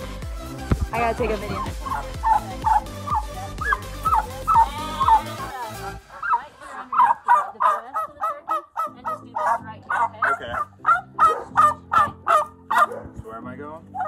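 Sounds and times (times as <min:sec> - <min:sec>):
turkey yelping: 0:01.5 - 0:13.0.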